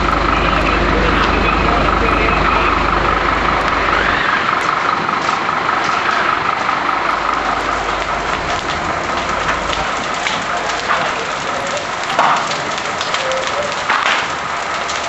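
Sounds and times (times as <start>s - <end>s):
fire engine motor running: 0.0s - 15.0s.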